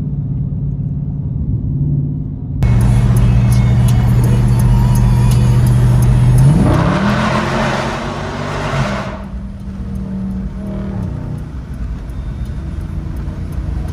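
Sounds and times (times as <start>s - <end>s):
car engine accelerating from inside cabin: 2.6s - 13.9s.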